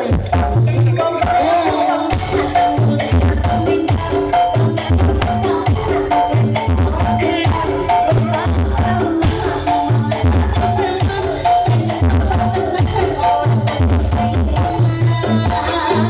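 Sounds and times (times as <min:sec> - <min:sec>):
loud music with heavy bass beat: 0:00.0 - 0:16.0.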